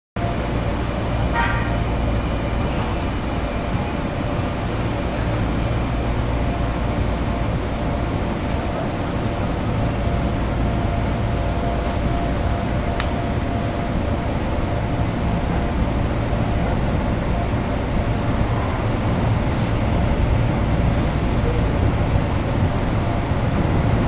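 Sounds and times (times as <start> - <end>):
train carriage rumbling on track: 0.2 - 24.0.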